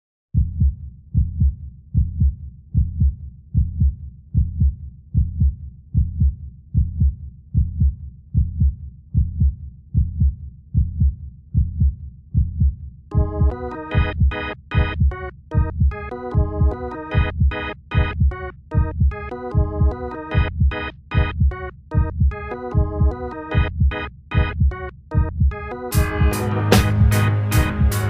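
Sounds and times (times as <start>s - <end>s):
heartbeat thumps: 0.4s - 28.0s.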